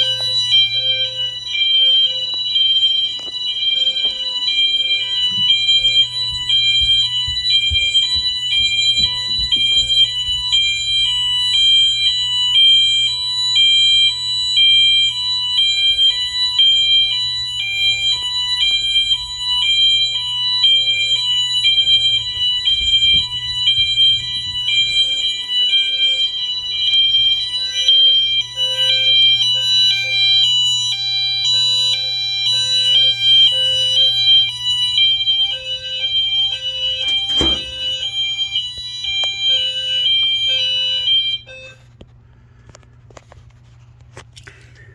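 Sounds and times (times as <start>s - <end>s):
hi-lo electronic fire alarm: 0.0s - 43.3s.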